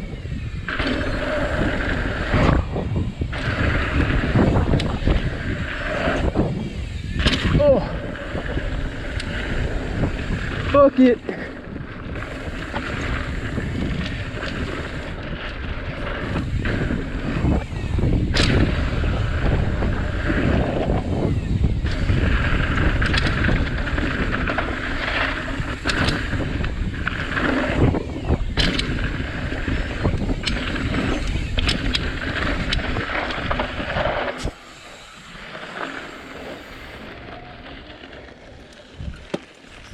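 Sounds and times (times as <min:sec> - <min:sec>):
wind buffeting microphone: 0:00.0 - 0:35.2, 0:35.8 - 0:39.9
tyres rumbling over dirt: 0:00.6 - 0:39.9.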